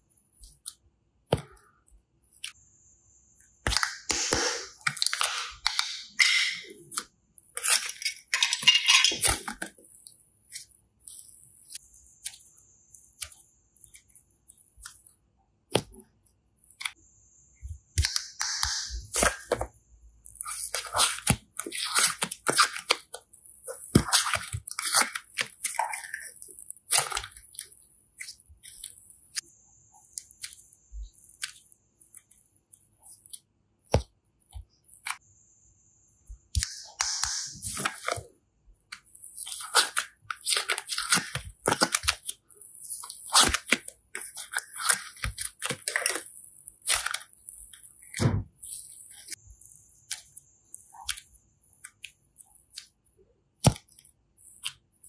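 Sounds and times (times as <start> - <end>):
slime crackling and squishing: 6.3 - 17.0, 17.7 - 35.2, 37.6 - 55.0.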